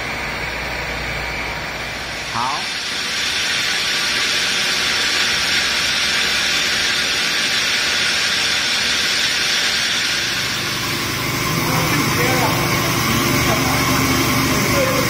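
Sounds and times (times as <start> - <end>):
mixer running with steady hiss: 0.0 - 15.0.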